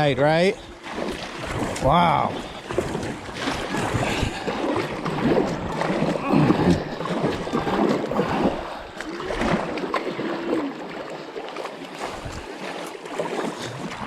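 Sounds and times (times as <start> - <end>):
paddle splashes and knocks: 0.0 - 14.0
river water running: 0.0 - 14.0.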